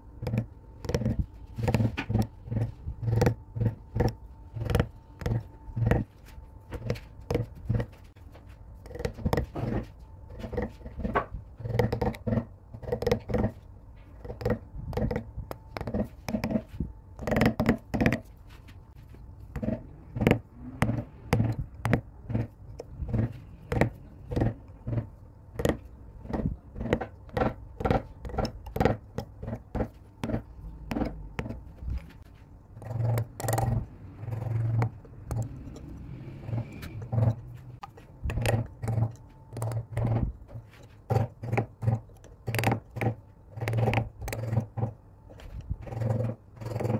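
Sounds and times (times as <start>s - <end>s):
carving gouge scraping wood: 0.2s - 46.9s.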